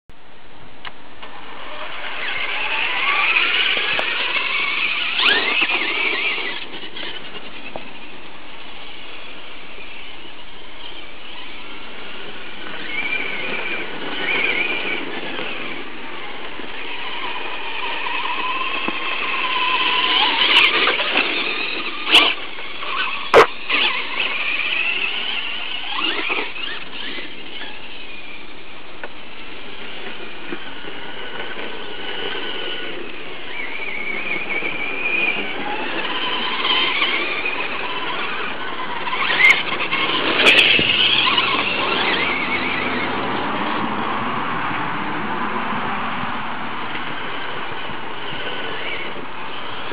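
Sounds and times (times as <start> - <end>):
toy truck motor whine: 1.3 - 43.8, 46.8 - 49.9.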